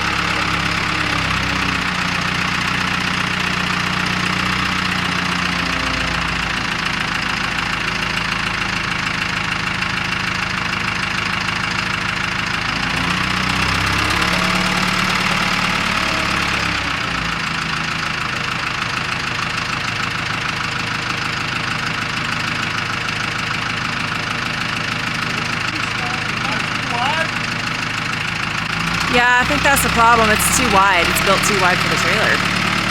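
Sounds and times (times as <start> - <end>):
diesel engine running with clatter: 0.0 - 32.9.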